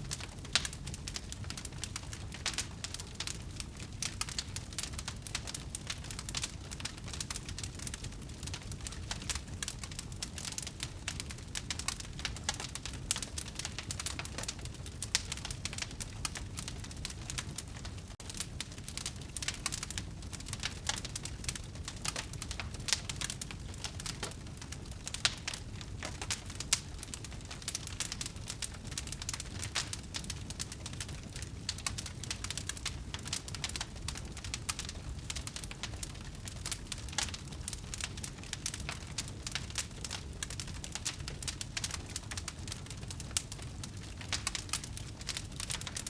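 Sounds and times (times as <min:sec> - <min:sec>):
low rumble of flame: 0:00.0 - 0:46.0
wood fire crackling: 0:00.0 - 0:46.0.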